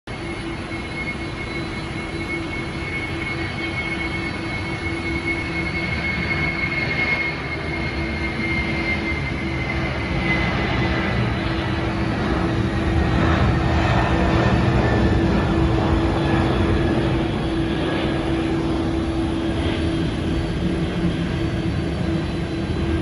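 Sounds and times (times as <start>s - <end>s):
jet engines whining: 0.1s - 23.0s.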